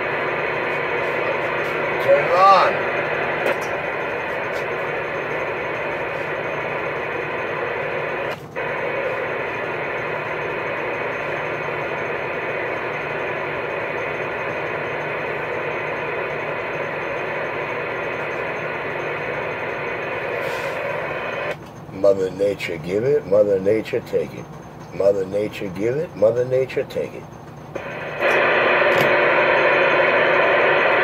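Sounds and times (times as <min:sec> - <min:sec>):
radio static hiss: 0:00.0 - 0:24.4, 0:25.0 - 0:31.0.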